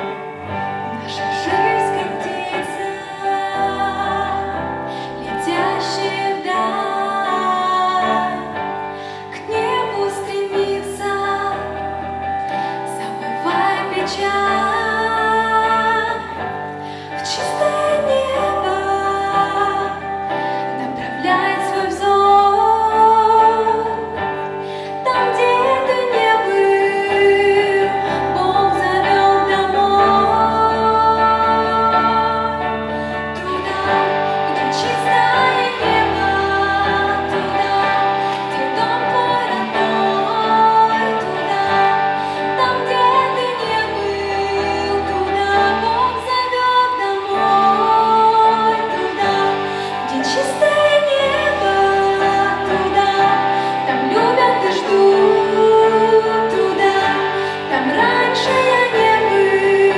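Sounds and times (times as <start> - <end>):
electric guitars: 0.0 - 59.9
woman singing into microphone: 0.0 - 59.9.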